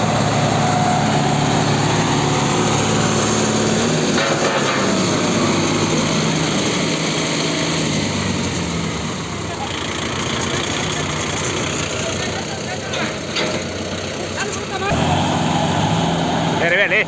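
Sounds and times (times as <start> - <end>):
tractor engines droning under load: 0.0 - 17.0.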